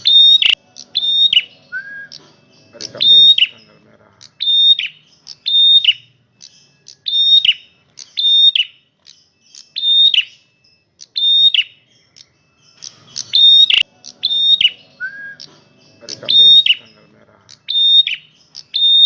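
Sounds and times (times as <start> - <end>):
songbird whistling: 0.0 - 19.0.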